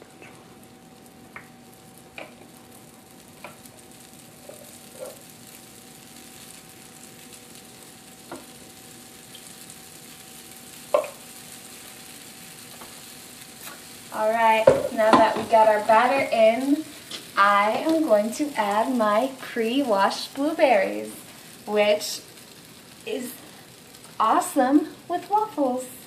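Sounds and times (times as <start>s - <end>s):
batter sizzling in waffle maker: 0.0s - 26.0s.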